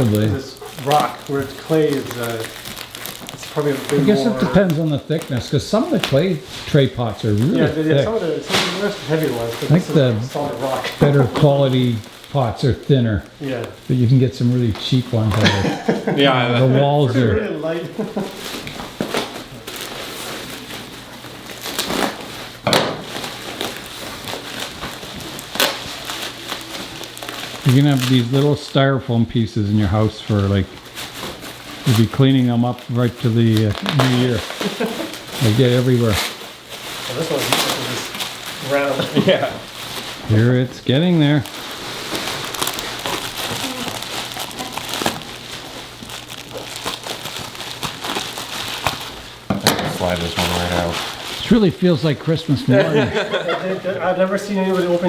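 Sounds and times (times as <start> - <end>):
packing material rustling: 0.0 - 55.0.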